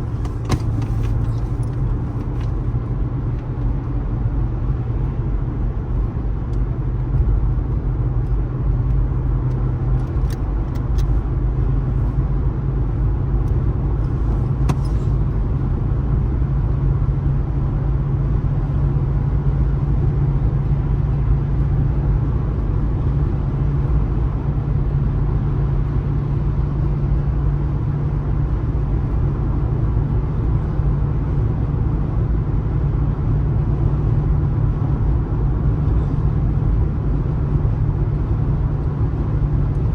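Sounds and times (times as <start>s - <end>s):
car tyre and road noise: 0.0s - 39.9s.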